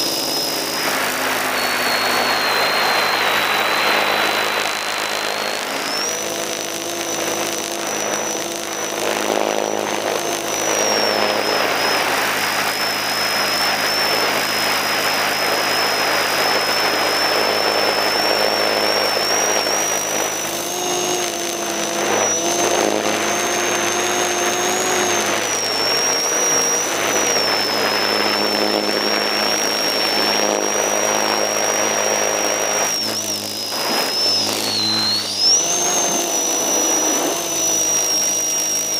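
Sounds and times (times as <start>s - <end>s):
drone motor whine: 0.0s - 38.9s
low propeller hum: 0.0s - 38.9s
propeller wash and wind: 0.0s - 38.9s.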